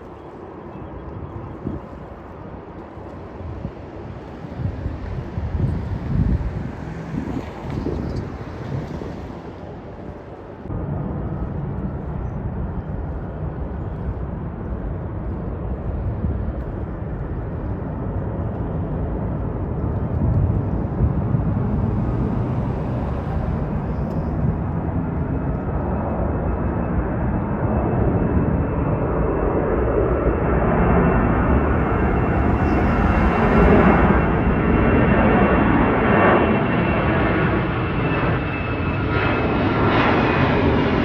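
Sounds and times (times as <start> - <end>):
airliner engines rumbling: 0.0 - 41.0.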